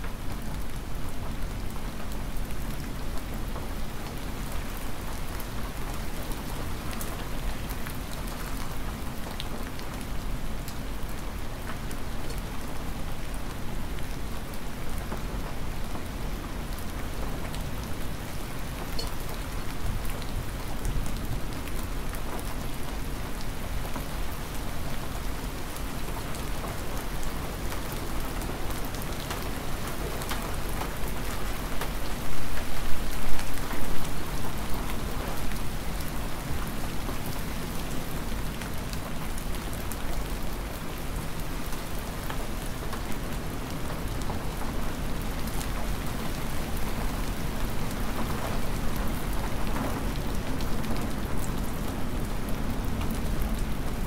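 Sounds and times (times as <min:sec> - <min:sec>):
hard rain falling: 0:00.0 - 0:54.0
raindrops ticking on surfaces: 0:00.0 - 0:54.0.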